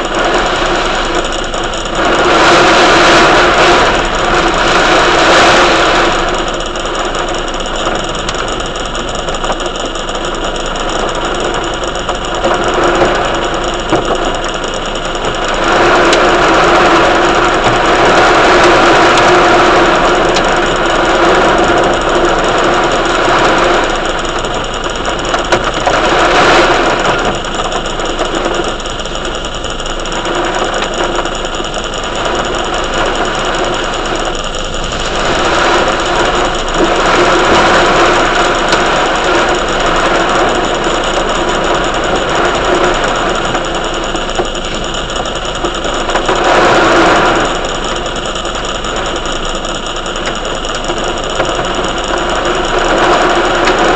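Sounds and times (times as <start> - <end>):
steady hum: 0.0 - 9.4, 10.3 - 48.1
heavy rain drumming: 0.0 - 53.9.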